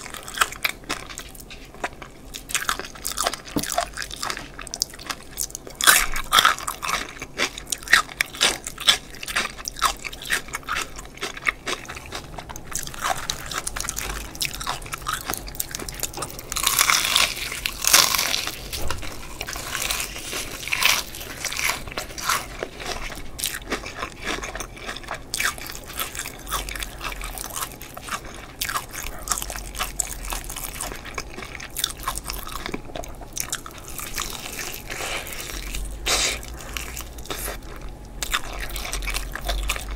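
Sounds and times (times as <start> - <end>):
crunchy chewing of fried chicken: 0.0 - 39.9.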